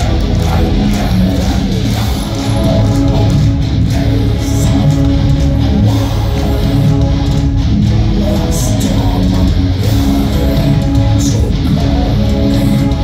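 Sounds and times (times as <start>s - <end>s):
live metal band playing: 0.0s - 13.0s.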